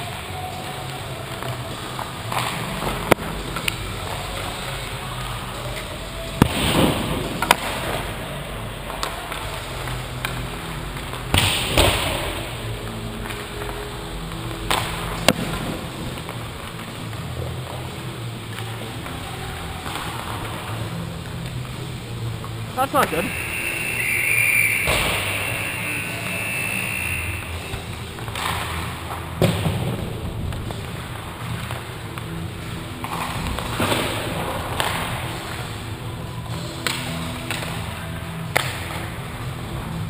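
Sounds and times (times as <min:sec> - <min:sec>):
hockey sticks and puck clacking: 0:00.0 - 0:40.0.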